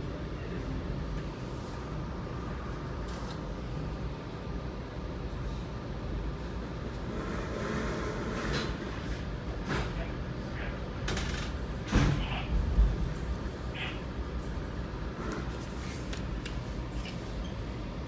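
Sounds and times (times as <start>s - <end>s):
train car humming: 0.0s - 18.0s.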